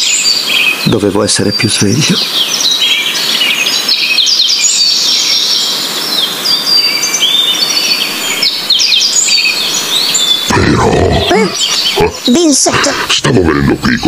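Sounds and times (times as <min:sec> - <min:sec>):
background hiss: 0:00.0 - 0:14.0
small birds chirping: 0:00.0 - 0:14.0.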